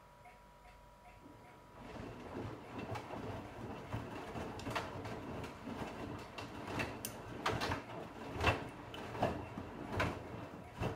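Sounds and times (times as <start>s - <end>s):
washing machine drum tumbling: 1.7s - 10.9s.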